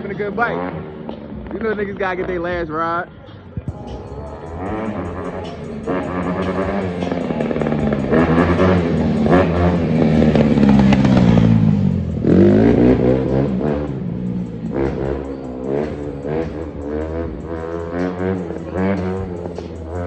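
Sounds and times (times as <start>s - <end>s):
dirt bike engine revving: 0.0s - 2.7s, 3.7s - 20.0s.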